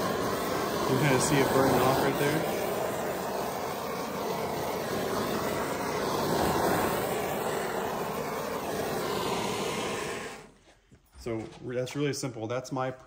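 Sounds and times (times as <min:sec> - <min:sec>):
gas torch hissing roar: 0:00.0 - 0:10.6.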